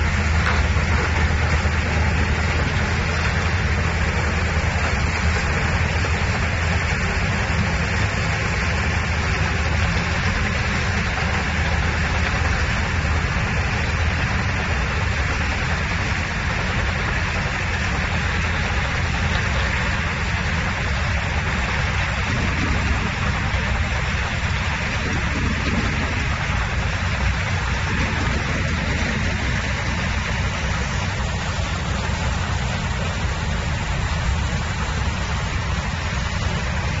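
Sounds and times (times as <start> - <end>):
harvester engine droning: 0.0 - 37.0.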